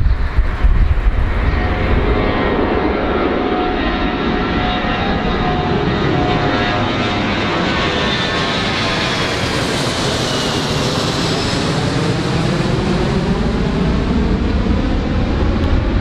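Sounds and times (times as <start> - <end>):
airplane engines roaring: 0.0 - 16.0.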